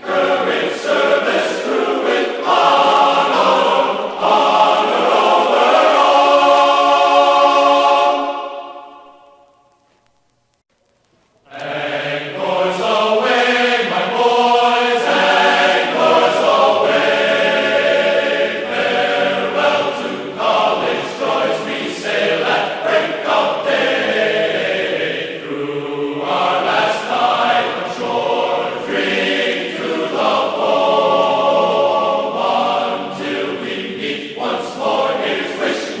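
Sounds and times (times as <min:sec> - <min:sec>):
choir singing long held notes: 0:00.0 - 0:09.7, 0:11.5 - 0:36.0.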